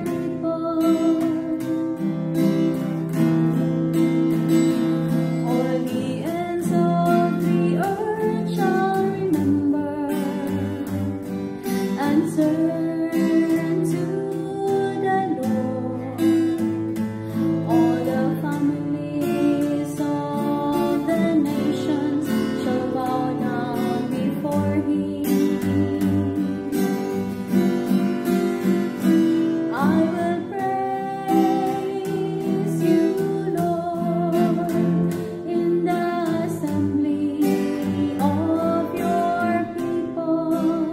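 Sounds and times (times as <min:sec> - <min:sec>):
person singing with vibrato: 0:00.0 - 0:02.8, 0:04.9 - 0:27.2, 0:29.0 - 0:40.9
guitar chords: 0:00.0 - 0:40.9.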